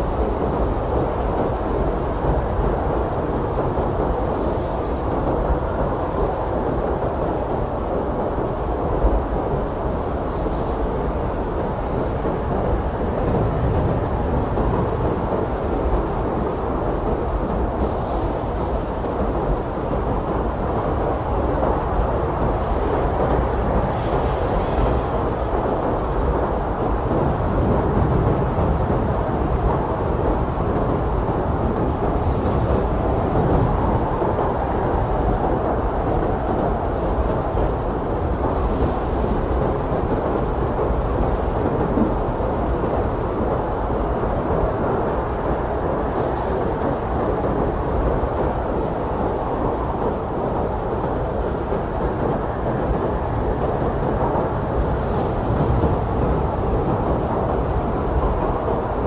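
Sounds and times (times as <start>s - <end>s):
strong blizzard wind roaring: 0.0s - 59.0s.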